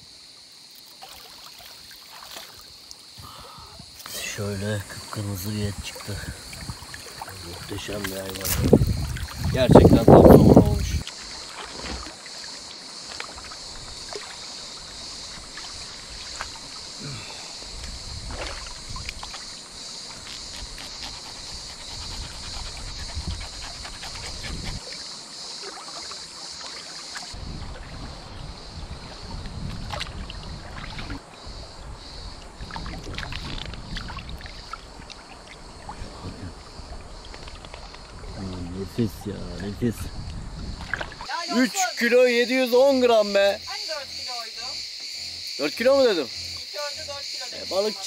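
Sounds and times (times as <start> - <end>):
river water splashing and trickling: 0.0 - 48.0.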